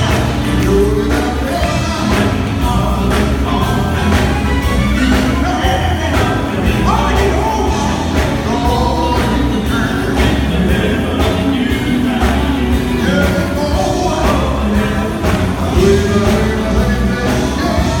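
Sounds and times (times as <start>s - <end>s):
drums: 0.0s - 18.0s
electric guitar: 0.0s - 18.0s
heavy bass line: 0.0s - 18.0s
man singing into a microphone: 0.0s - 18.0s.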